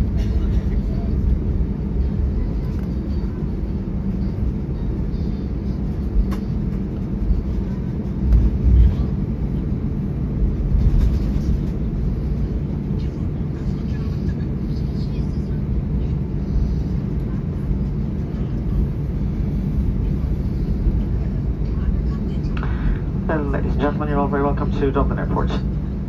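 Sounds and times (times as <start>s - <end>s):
airliner engine and wheel rumble: 0.0s - 26.0s.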